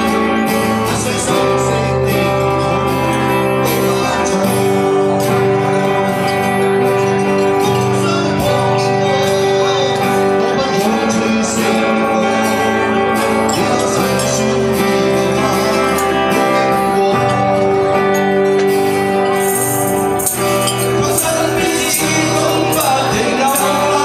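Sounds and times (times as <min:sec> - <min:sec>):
acoustic guitar accompaniment: 0:00.0 - 0:24.0.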